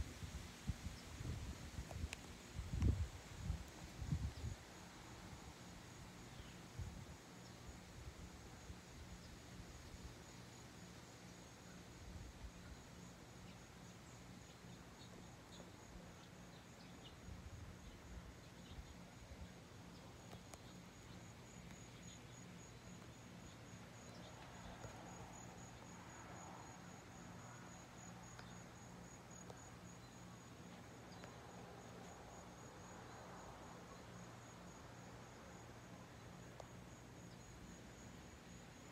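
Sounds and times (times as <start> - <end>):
insect chirping: 0.1 - 38.9.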